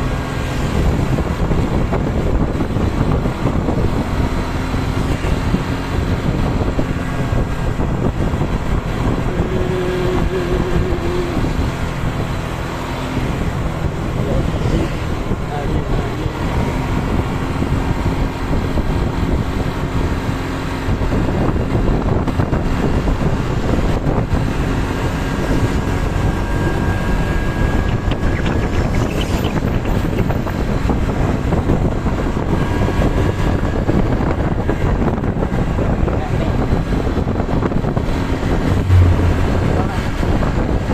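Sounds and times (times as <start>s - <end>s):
rumble of road vehicles: 0.0s - 40.9s
wind buffeting microphone: 0.0s - 40.9s.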